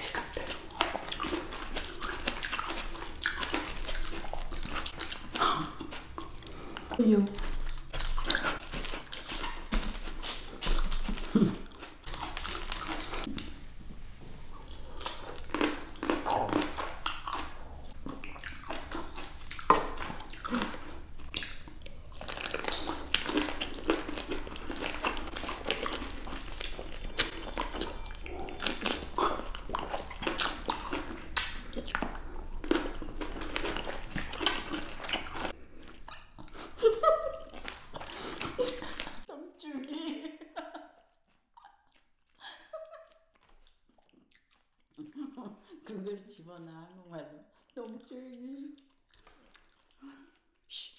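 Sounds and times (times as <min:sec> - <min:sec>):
people chewing grapes: 0:00.0 - 0:50.9.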